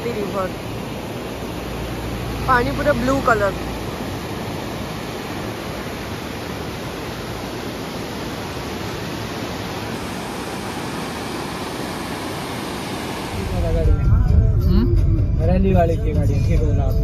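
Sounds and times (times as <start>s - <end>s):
river rushing over boulders: 0.0s - 14.1s.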